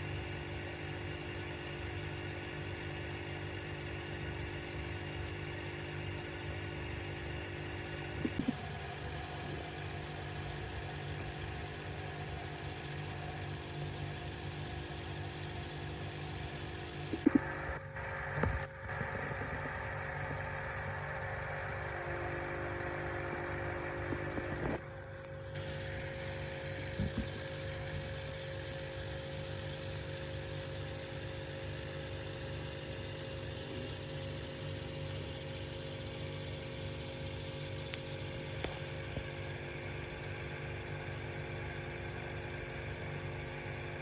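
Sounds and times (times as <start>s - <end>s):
aquarium filter pump hum: 0.0s - 44.0s.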